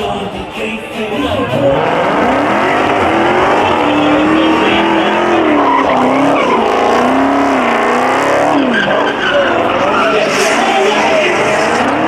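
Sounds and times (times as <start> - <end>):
tyres squealing: 0.6 - 12.0
car engine revving hard: 1.2 - 12.0.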